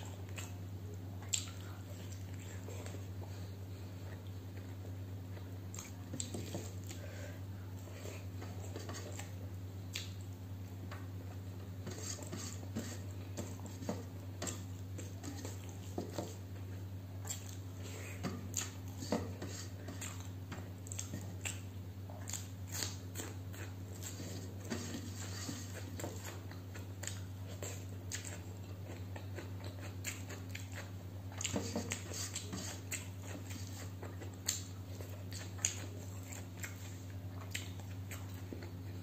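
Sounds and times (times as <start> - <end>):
chewing: 0.0 - 39.0
steady low hum: 0.0 - 39.0.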